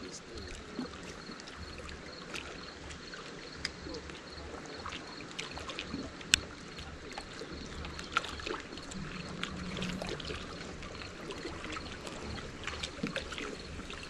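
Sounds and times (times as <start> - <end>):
waves lapping against rocks: 0.0 - 14.0.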